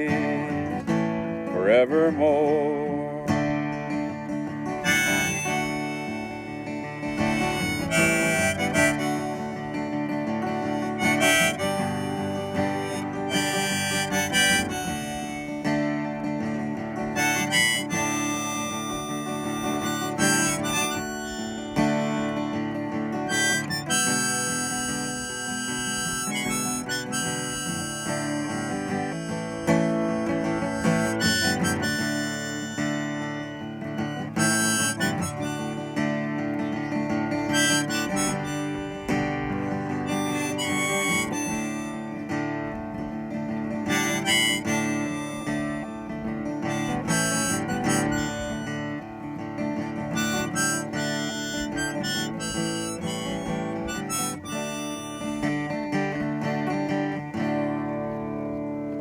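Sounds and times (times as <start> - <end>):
acoustic guitar: 0.0 - 59.0
harmonica melody: 0.0 - 59.0.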